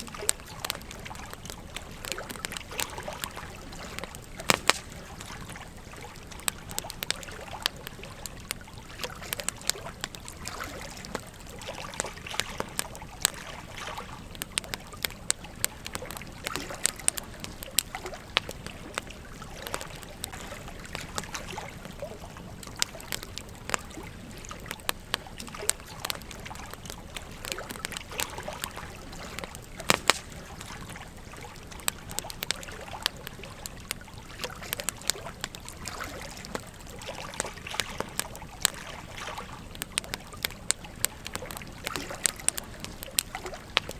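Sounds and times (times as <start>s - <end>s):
campfire crackling and popping: 0.0s - 43.9s
stream trickling: 0.0s - 43.9s.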